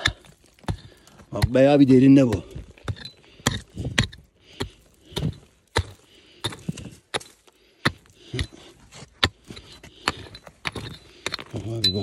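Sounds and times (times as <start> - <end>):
rock hammer striking stony ground: 0.0 - 12.0.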